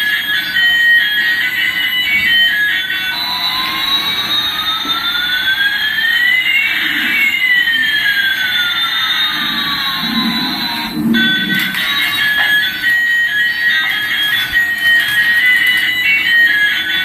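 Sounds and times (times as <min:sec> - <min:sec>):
beeping toy tune: 0:00.0 - 0:17.0.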